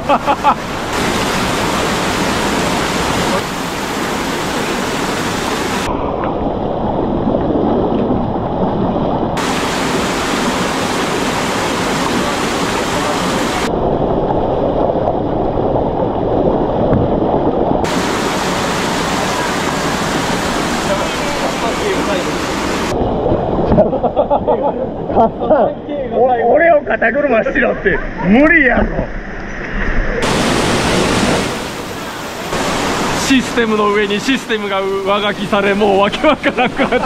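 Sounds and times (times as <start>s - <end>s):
stream water rushing: 0.0s - 23.8s, 27.1s - 37.0s.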